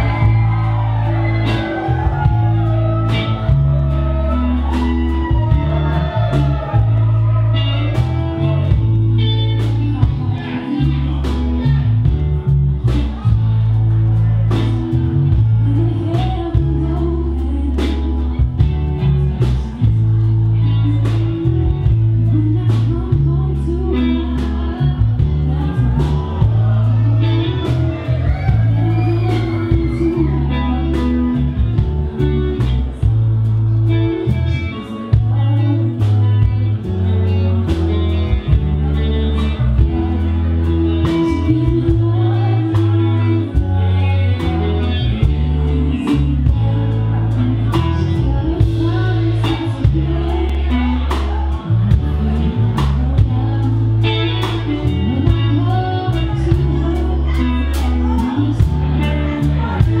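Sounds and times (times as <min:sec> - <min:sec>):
bass guitar: 0:00.0 - 1:00.0
electric guitar: 0:00.0 - 1:00.0
person singing: 0:00.0 - 1:00.0.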